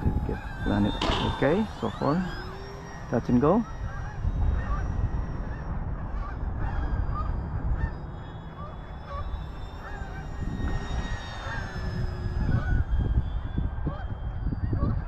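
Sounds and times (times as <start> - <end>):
geese honking: 0.0 - 12.8
electric motor whine: 0.0 - 15.0
wind gusts on microphone: 0.0 - 15.0.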